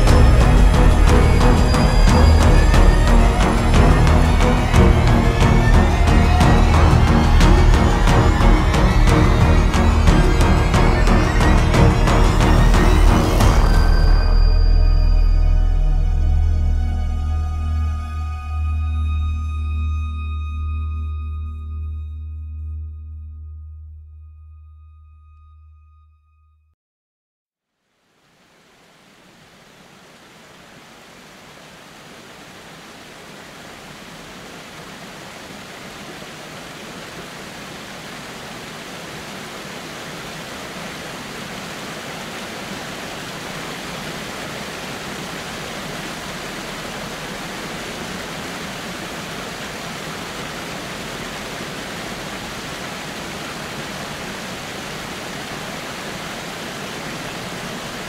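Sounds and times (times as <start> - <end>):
waterfall rushing: 0.0 - 18.3, 28.1 - 58.0.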